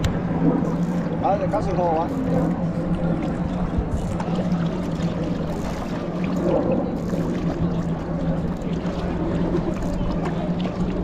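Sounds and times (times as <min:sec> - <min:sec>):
boat motor humming: 0:00.0 - 0:11.0
water sloshing around hull: 0:00.0 - 0:11.0.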